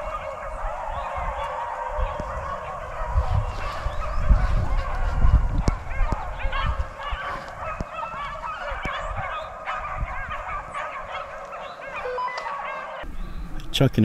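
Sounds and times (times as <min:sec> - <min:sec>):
hounds yelping and baying: 0:00.0 - 0:13.6.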